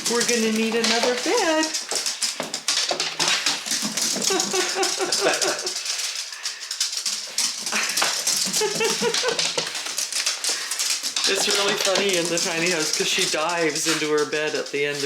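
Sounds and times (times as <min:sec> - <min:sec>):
dog claws clicking on floor: 0:00.0 - 0:15.0.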